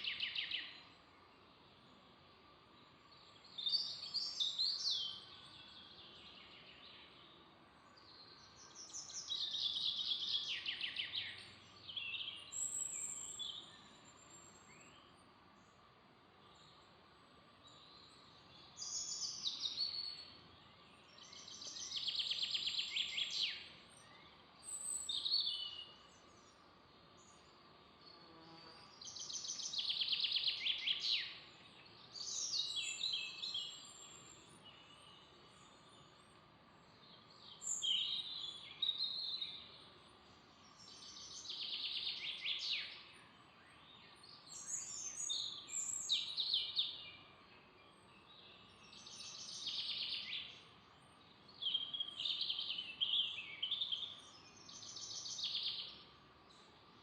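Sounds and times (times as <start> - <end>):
faint background hiss: 0.0 - 57.0.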